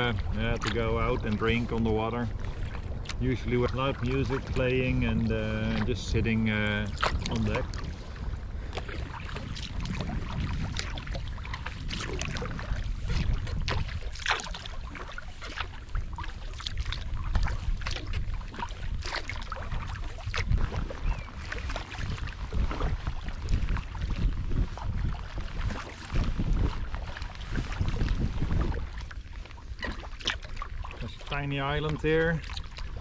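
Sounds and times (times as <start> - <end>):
paddle splashing: 0.0 - 33.0
water lapping against hull: 0.0 - 33.0
wind buffeting microphone: 0.0 - 33.0.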